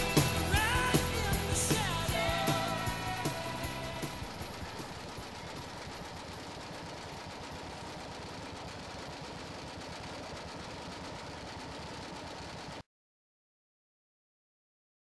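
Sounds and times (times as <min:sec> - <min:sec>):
go-kart engine buzzing: 0:00.0 - 0:12.8.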